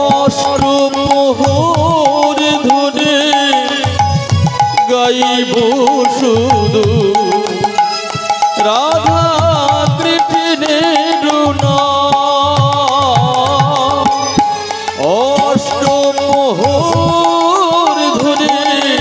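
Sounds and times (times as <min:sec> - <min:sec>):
hand drum beats: 0:00.0 - 0:19.0
harmonium melody: 0:00.0 - 0:19.0.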